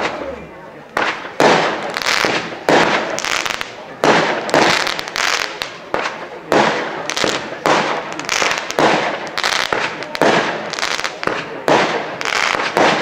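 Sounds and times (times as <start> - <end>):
firework bangs: 0.9 - 13.0.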